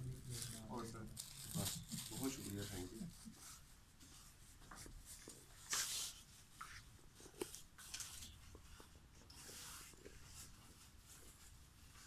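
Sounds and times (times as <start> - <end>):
scratchy rustling: 0.0 - 12.0.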